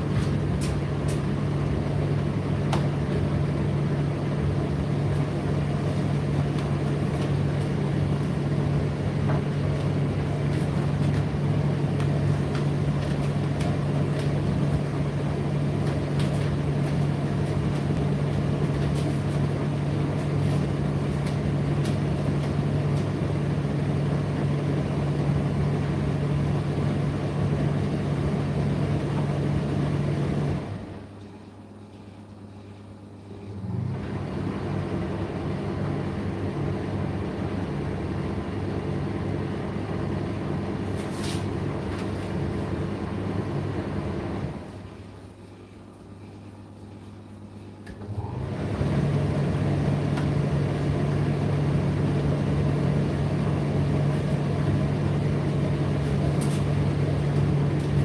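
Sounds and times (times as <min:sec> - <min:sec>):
dryer drum rumbling: 0:00.0 - 0:31.3, 0:33.4 - 0:45.4, 0:47.8 - 0:58.0
tumble dryer motor humming: 0:00.0 - 0:58.0.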